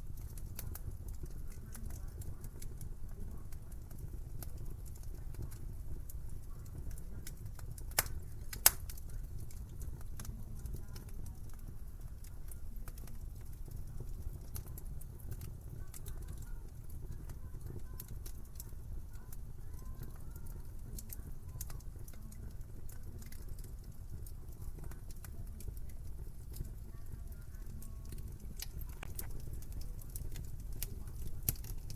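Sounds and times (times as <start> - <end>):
fire low rumble: 0.0 - 31.9
fire pops: 0.0 - 31.9
wood fire crackles: 0.0 - 31.9.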